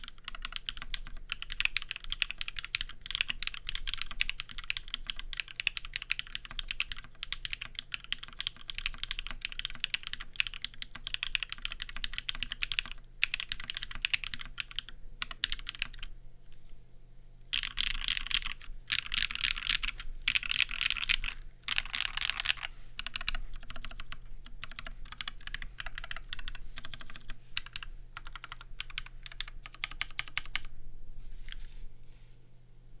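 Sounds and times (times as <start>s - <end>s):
fast mechanical keyboard typing: 0.0s - 16.1s, 17.5s - 30.7s.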